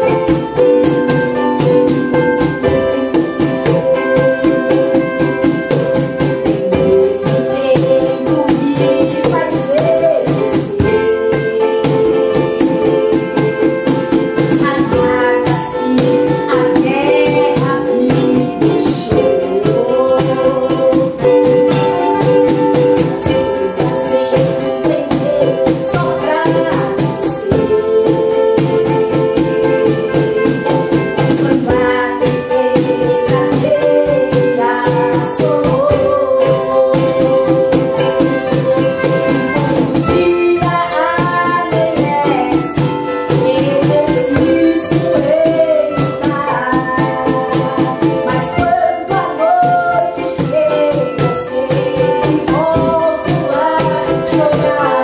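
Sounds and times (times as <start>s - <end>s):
cajon beat: 0.0s - 55.0s
strummed acoustic guitar: 0.0s - 55.0s
ukulele: 0.0s - 55.0s
woman singing a hymn: 2.6s - 55.0s.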